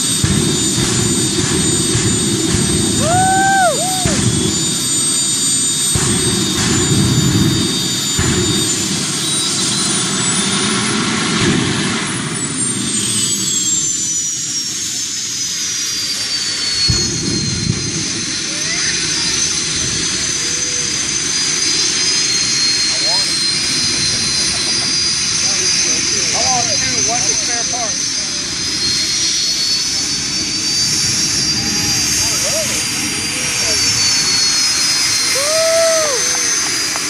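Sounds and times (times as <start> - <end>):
jet turbine engine whining: 0.0 - 37.0.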